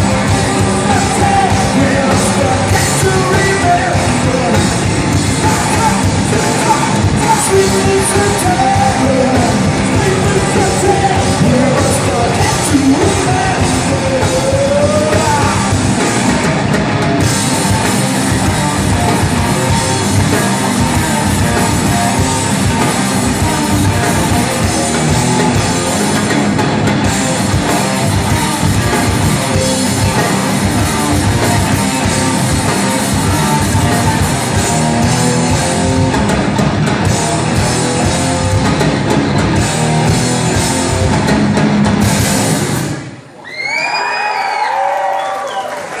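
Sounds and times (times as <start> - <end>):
drum kit: 0.0 - 43.3
electric guitars: 0.0 - 43.3
rock band playing live: 0.0 - 43.4.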